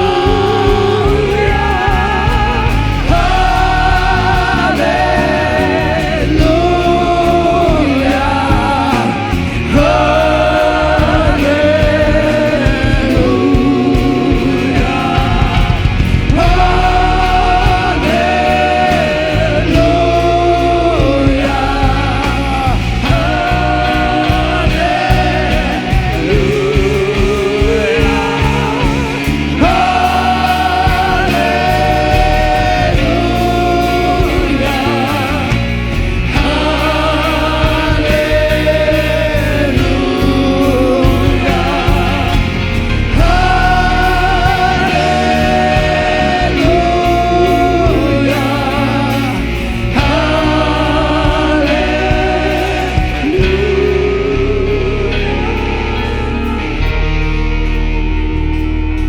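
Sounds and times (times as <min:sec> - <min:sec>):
band with drums: 0:00.0 - 0:54.4
voices singing in harmony: 0:00.0 - 0:59.0.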